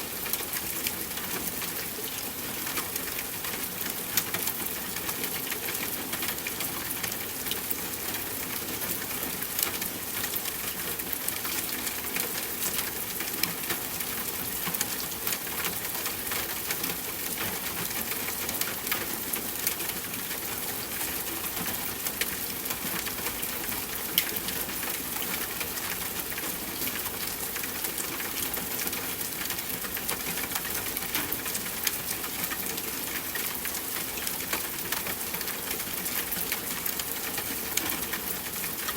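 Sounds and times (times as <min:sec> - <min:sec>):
steady rain falling: 0:00.0 - 0:38.9
raindrops tapping on surface: 0:00.2 - 0:38.9.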